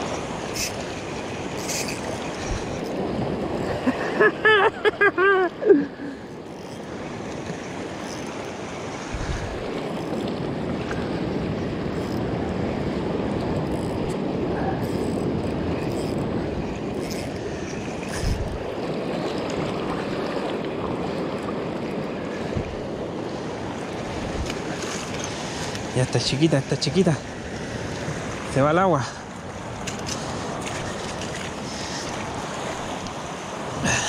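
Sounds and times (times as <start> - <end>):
surf washing over rocks: 0.0 - 34.0.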